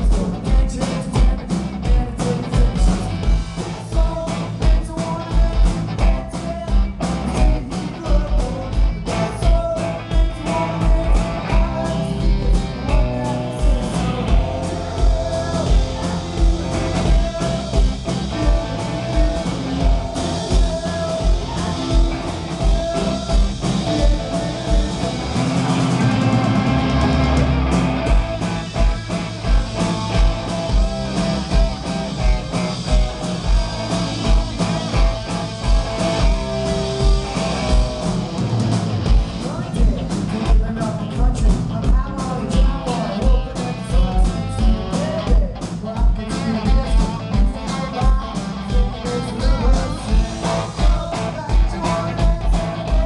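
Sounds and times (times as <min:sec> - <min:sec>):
person singing: 0:00.0 - 0:38.2, 0:39.4 - 0:53.0
bass guitar: 0:00.0 - 0:53.0
electric guitar: 0:00.0 - 0:53.0.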